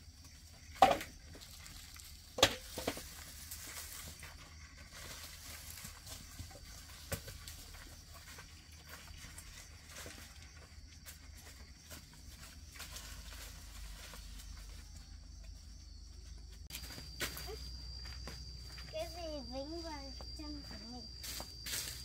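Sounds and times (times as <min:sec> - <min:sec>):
faint outdoor background: 0:00.0 - 0:22.0.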